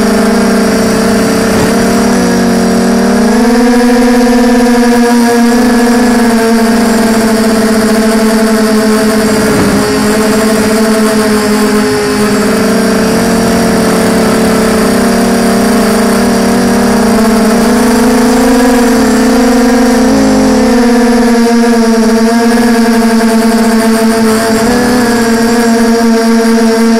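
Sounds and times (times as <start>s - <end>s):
quadcopter motors whining: 0.0s - 26.9s.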